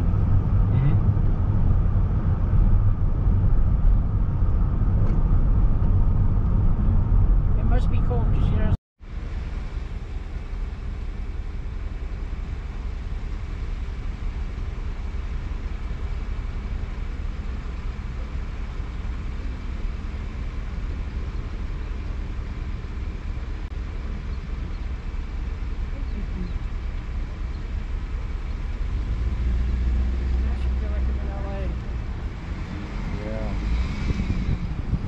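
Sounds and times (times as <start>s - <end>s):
car interior rumble: 0.0s - 35.0s.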